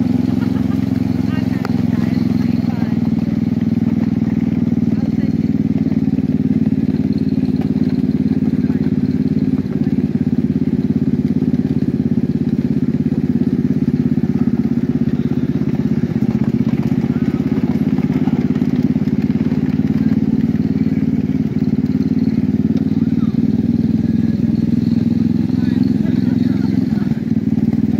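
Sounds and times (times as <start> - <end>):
miniature train engine running: 0.0 - 27.9.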